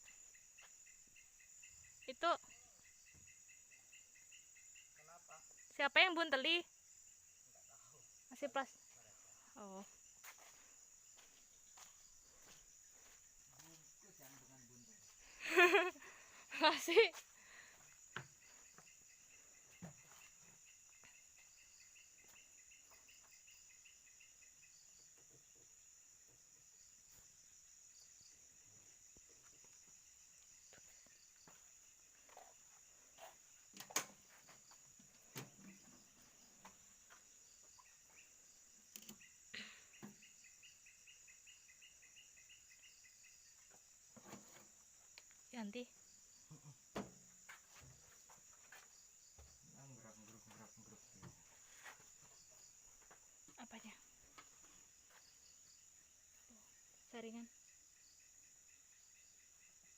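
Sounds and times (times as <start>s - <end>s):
cricket chirring: 0.0s - 59.9s
pulsing insect trill: 0.0s - 59.9s.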